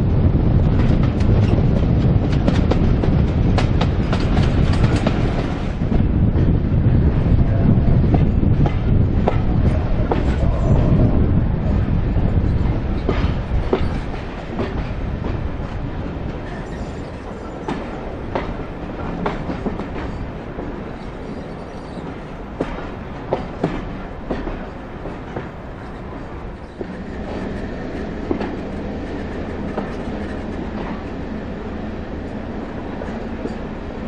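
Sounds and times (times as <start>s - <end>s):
train coaches rumbling: 0.0s - 34.0s.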